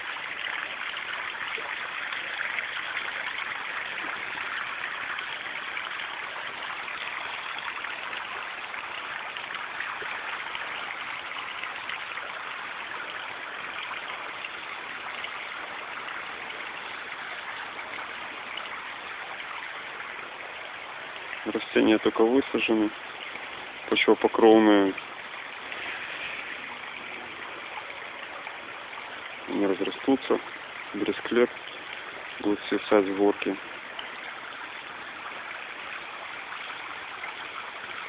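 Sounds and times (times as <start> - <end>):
water splashing over rocks: 0.0 - 38.0.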